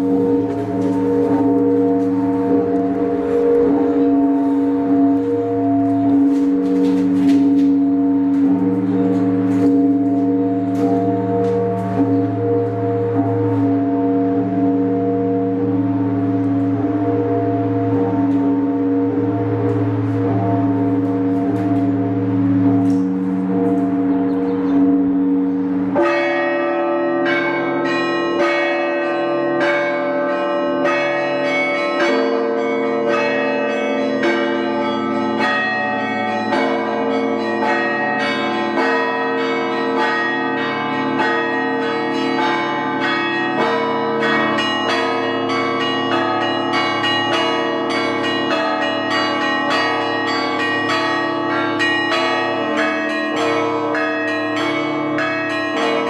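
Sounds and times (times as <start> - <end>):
deep church bells ringing: 0.0 - 56.0.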